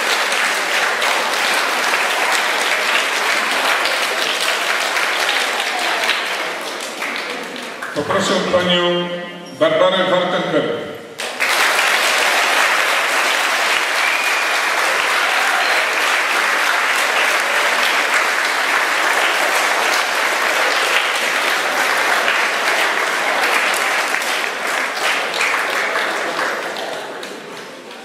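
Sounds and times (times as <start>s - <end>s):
audience applauding: 0.0s - 8.4s, 11.2s - 28.0s.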